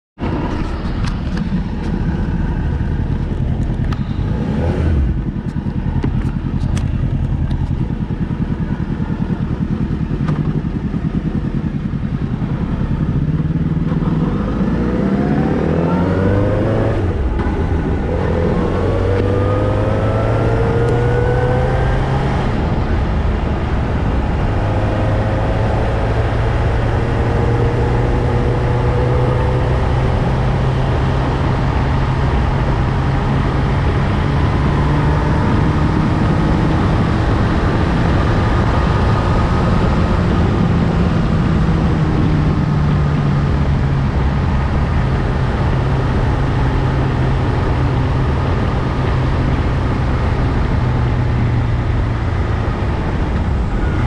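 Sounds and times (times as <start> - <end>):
motorcycle engine: 0.2 - 54.0.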